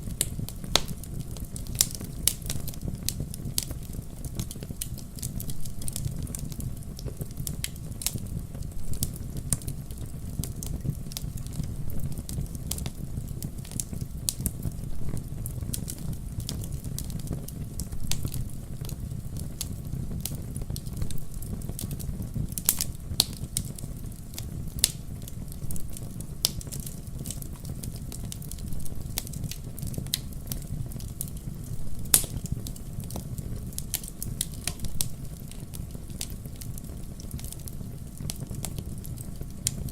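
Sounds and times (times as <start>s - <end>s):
campfire crackling: 0.0s - 39.9s
sharp fire pops: 0.0s - 39.9s.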